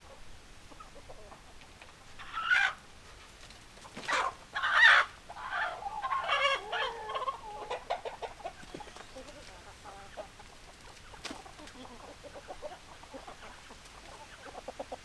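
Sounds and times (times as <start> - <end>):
chickens clucking and squawking: 0.0 - 15.0.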